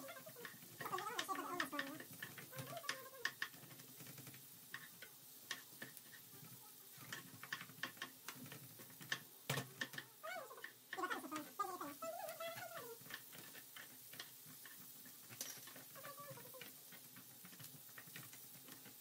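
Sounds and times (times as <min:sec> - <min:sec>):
wooden spoon scraping frying pan: 0:00.0 - 0:19.0.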